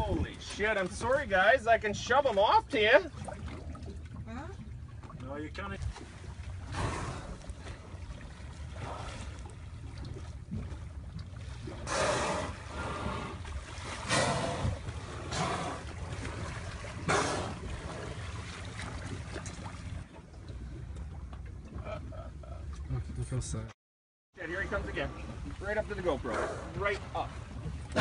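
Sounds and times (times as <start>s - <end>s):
water sloshing against boat: 0.0s - 23.7s, 24.4s - 28.0s.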